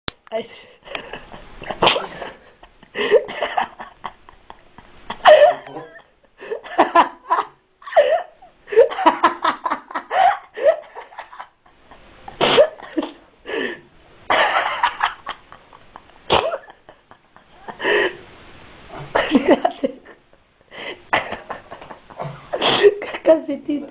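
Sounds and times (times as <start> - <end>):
people laughing hard: 0.9 - 18.2, 19.1 - 23.8.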